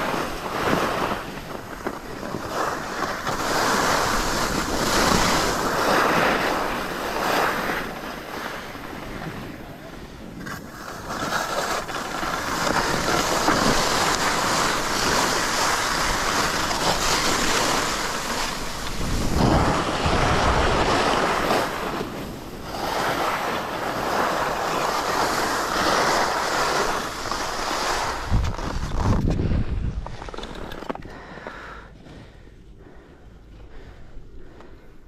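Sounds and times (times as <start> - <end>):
skis scraping on snow: 0.0 - 31.1
wind rumbling on microphone: 0.0 - 31.3.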